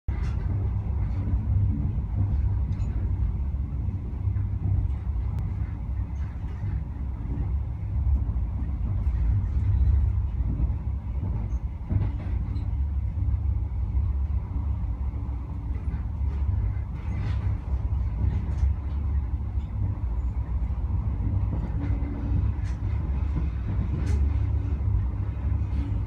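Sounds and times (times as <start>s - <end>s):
train rumbling at speed: 0.1s - 26.0s.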